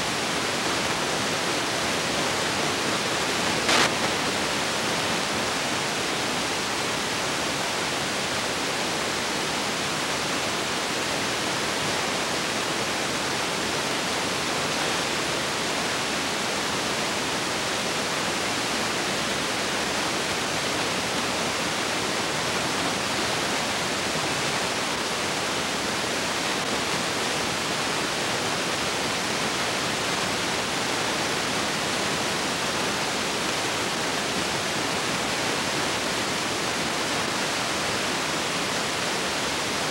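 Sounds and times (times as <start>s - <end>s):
steady film hiss: 0.0s - 39.9s.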